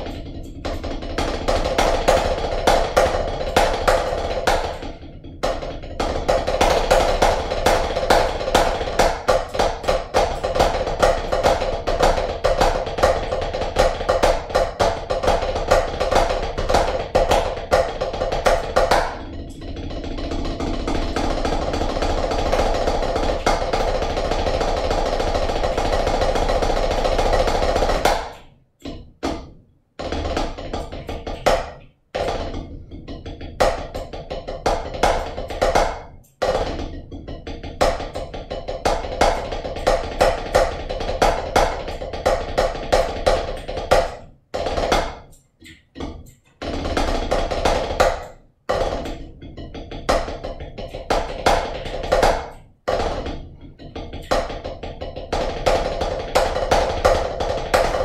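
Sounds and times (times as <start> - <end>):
drumsticks on rubber practice pad: 0.0 - 58.0.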